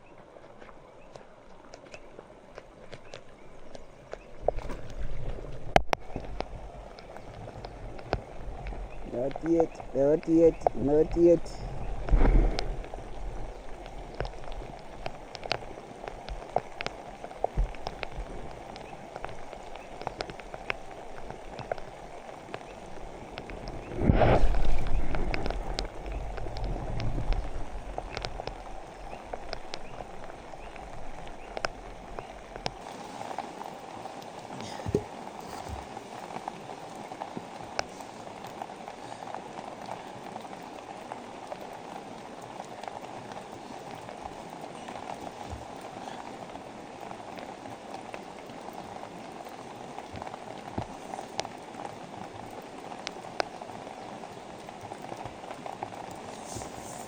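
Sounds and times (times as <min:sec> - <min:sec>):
raindrops ticking on surfaces: 0:00.0 - 0:57.0
steady rain falling: 0:00.0 - 0:57.0.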